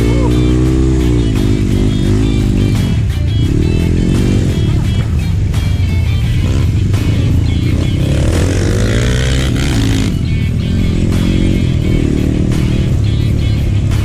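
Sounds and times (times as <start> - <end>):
background music: 0.0 - 14.0
motorcycle engine running: 0.0 - 14.0.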